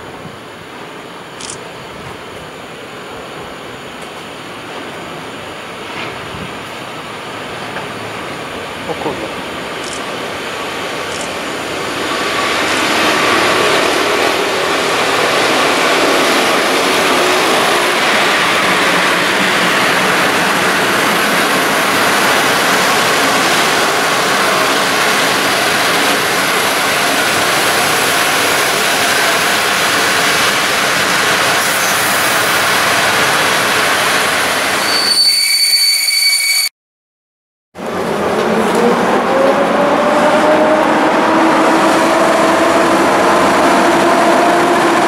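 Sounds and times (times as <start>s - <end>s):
train wheels rushing on rails: 0.0s - 35.7s, 37.8s - 45.0s.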